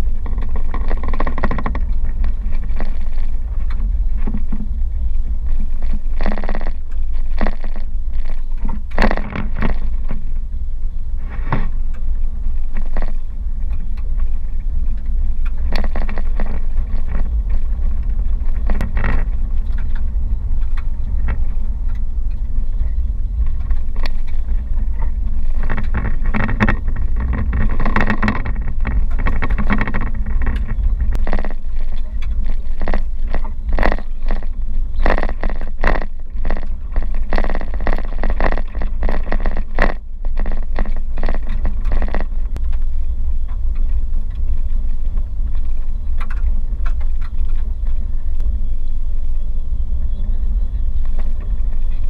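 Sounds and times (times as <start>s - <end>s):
tyres rumbling on gravel: 0.0s - 52.0s.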